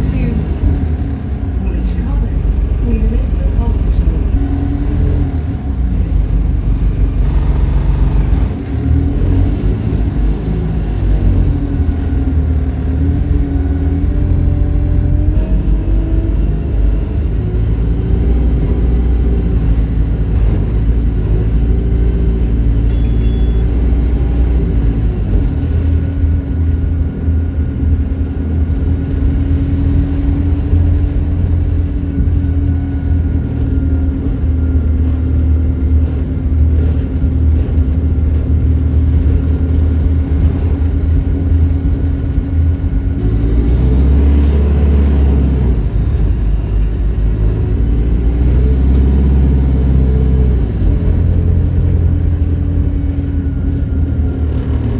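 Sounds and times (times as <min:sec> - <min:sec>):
bus engine rumbling: 0:00.0 - 0:54.9.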